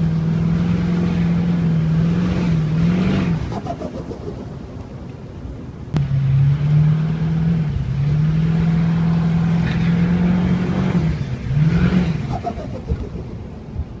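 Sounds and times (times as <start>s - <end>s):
car engine revving: 0.0s - 4.3s, 6.0s - 13.6s.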